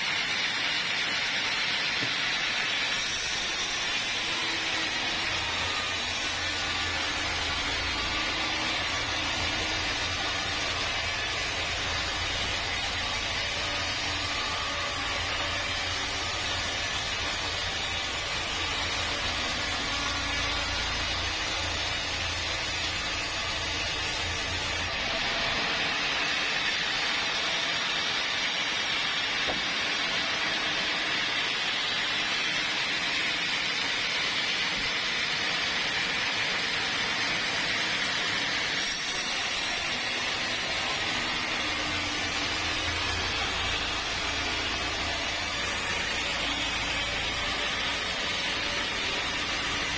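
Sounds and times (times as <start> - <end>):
sawmill machinery hiss: 0.0 - 49.9
sawmill machinery low hum: 0.0 - 49.9.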